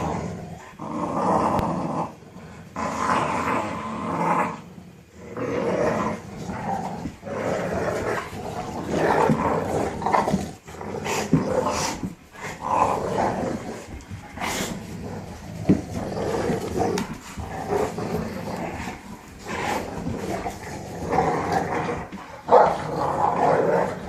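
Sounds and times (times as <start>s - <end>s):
puppies growling: 0.0s - 24.0s.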